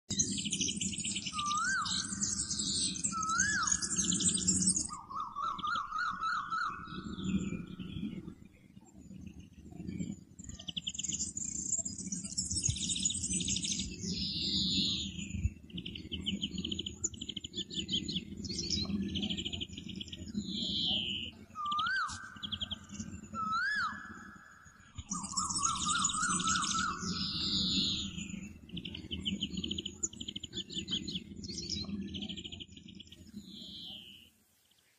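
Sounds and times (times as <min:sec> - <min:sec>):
bird chirping trills: 0:00.1 - 0:34.9.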